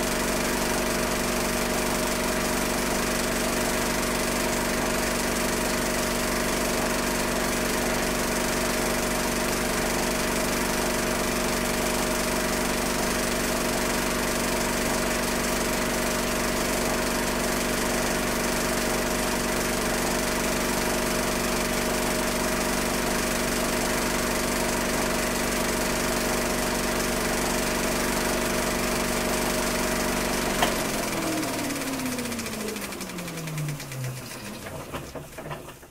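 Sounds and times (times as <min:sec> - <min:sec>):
film projector running: 0:00.0 - 0:35.9.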